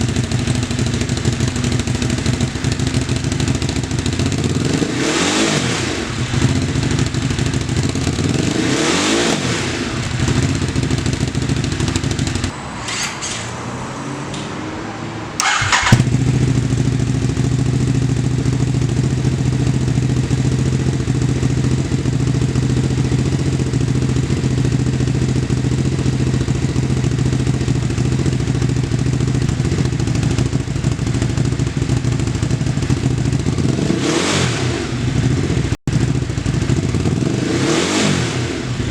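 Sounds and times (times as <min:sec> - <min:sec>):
motorcycle engine revving and idling: 0:00.0 - 0:12.6, 0:15.4 - 0:38.9.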